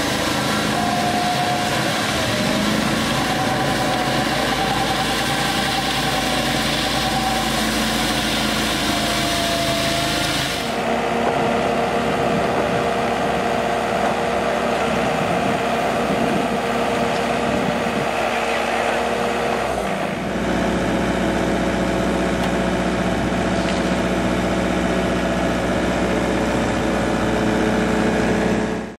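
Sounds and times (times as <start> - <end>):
power trowel engine running: 0.0 - 28.9
skid-steer loader engine running: 0.0 - 28.9.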